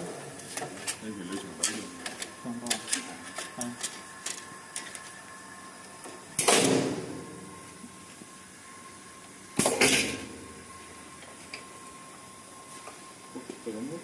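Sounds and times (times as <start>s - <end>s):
faint machinery hum: 0.0s - 14.0s.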